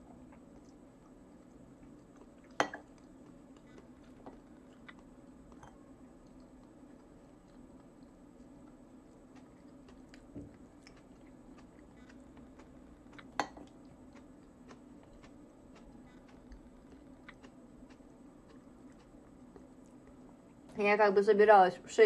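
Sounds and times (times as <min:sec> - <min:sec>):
faint chewing of salad: 0:00.0 - 0:20.7.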